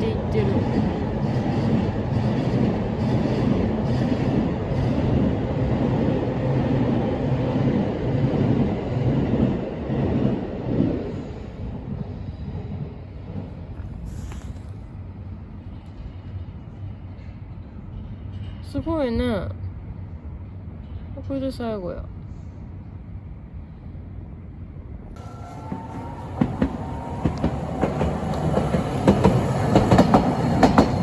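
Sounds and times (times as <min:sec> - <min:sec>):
electric train rumbling past: 0:00.0 - 0:21.2, 0:22.2 - 0:31.0.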